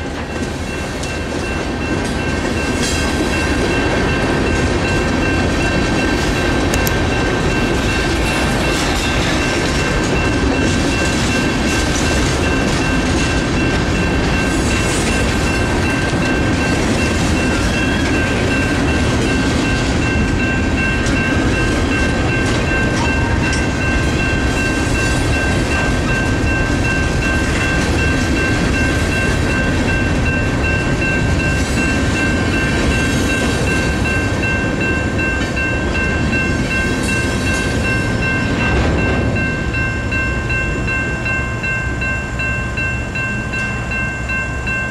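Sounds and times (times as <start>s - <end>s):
crossing bells ringing: 0.0s - 44.9s
freight train wheels rumbling: 0.0s - 44.9s.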